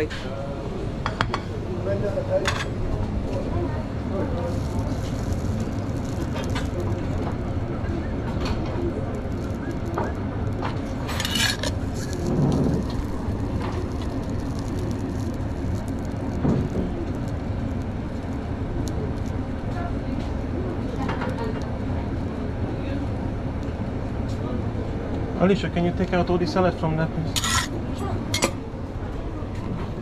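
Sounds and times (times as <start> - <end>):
low background rumble: 0.4 - 25.4.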